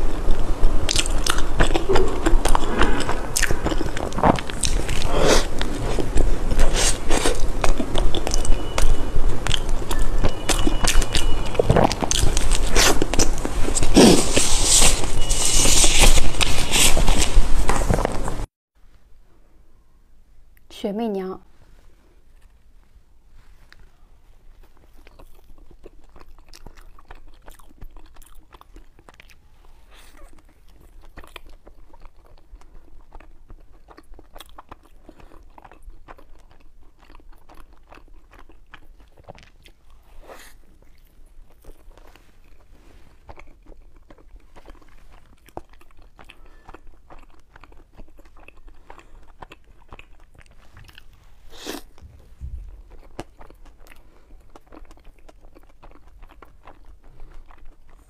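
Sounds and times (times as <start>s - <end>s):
woman chewing with wet smacks: 0.0s - 17.4s, 24.5s - 58.0s.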